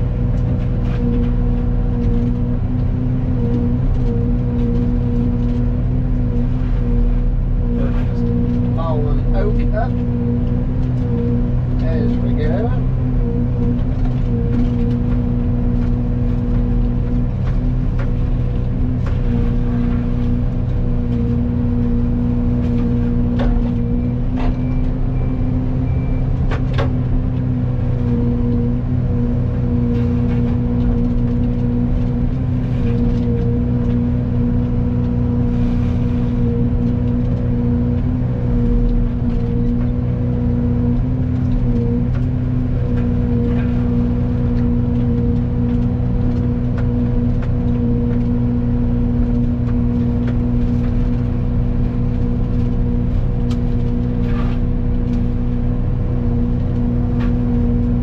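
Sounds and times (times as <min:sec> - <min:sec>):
excavator engine under load: 0:00.0 - 0:58.0.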